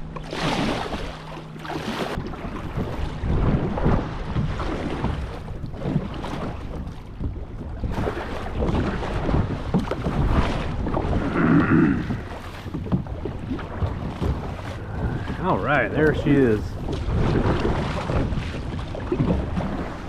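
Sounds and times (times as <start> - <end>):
boat motoring across water: 0.0 - 20.0
water sloshing: 0.0 - 20.0
wind buffeting microphone: 1.7 - 20.0.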